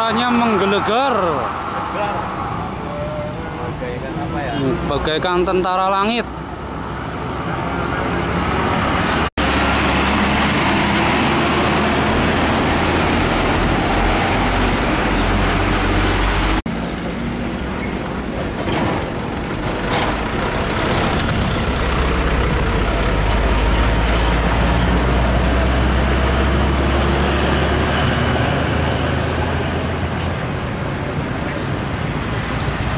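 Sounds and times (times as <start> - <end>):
diesel trucks driving past: 0.0 - 32.9
road traffic noise: 0.0 - 32.9.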